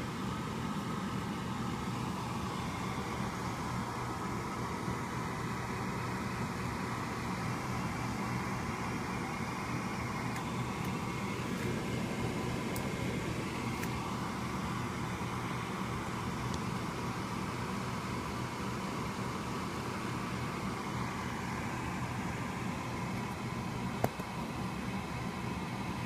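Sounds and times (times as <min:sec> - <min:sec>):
fan-like mechanical hum: 0:00.0 - 0:26.0.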